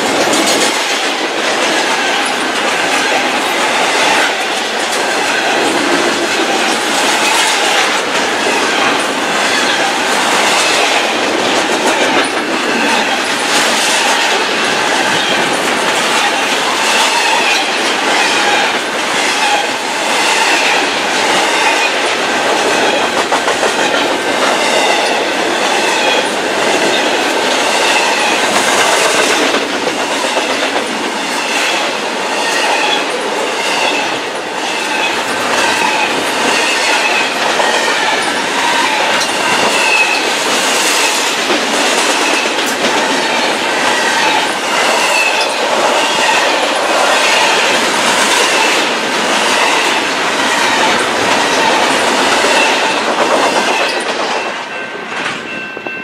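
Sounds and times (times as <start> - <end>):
train wheels clattering over rail joints: 0.0 - 55.6.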